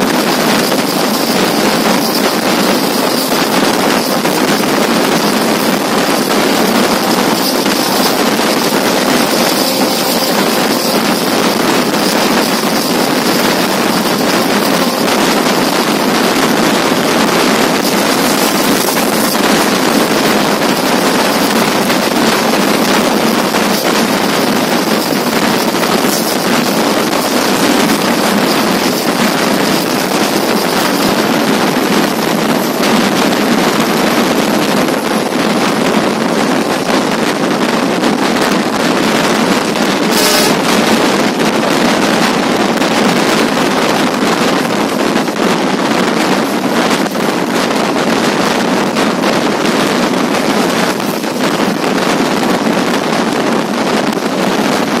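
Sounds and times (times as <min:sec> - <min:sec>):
train wheels on rails: 0:00.0 - 0:55.0
wind buffeting microphone: 0:00.0 - 0:55.0.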